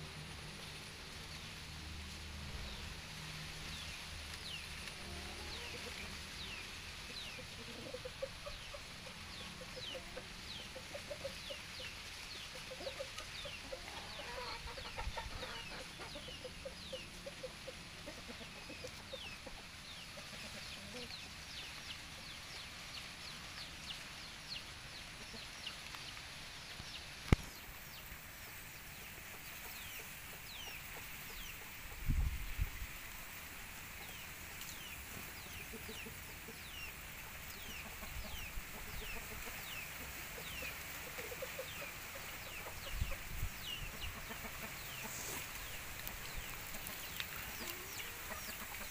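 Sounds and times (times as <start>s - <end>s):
chickens clucking: 3.7s - 48.9s.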